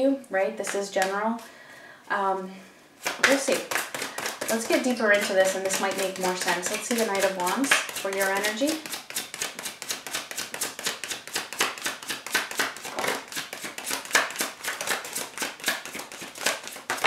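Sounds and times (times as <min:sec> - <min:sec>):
cards being shuffled: 0:03.0 - 0:17.0.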